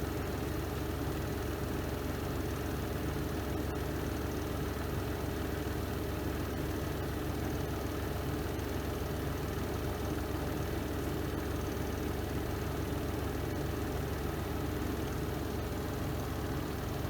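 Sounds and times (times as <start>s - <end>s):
washing machine spin cycle hum: 0.0s - 17.0s.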